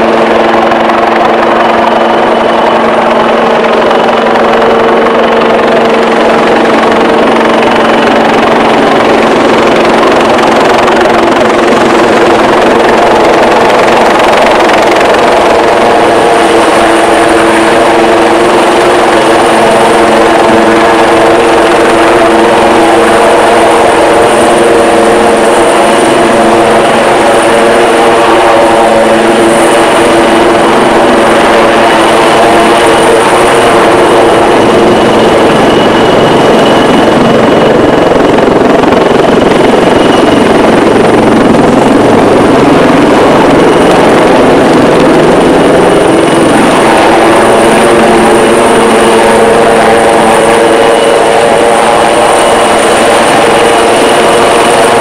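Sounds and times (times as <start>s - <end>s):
helicopter hovering: 0.0s - 55.0s
high turbine whine: 0.0s - 55.0s.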